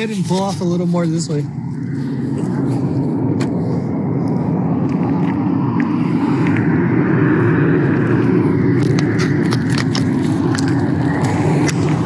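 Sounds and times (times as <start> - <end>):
car rumbling: 0.0 - 12.0.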